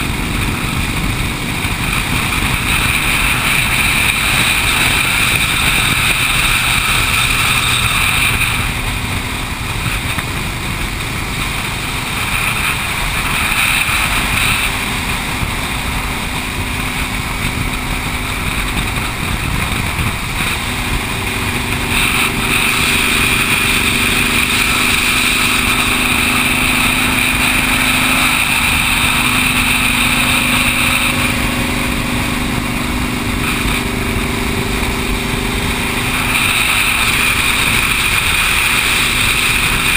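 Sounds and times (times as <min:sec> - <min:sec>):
motorcycle engine drone: 0:00.0 - 0:39.9
nearby motorcycles humming: 0:00.0 - 0:39.9
wind and road rush: 0:00.0 - 0:39.9.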